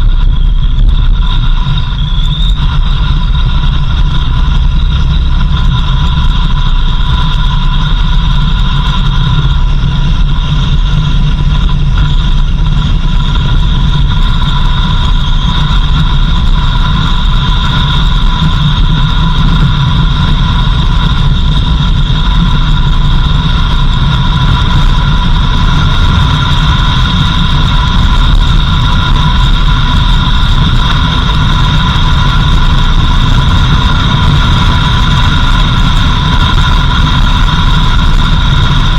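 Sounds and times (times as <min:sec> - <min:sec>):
constant high whine: 0:00.0 - 0:38.9
vehicle engine and road rumble: 0:00.0 - 0:38.9.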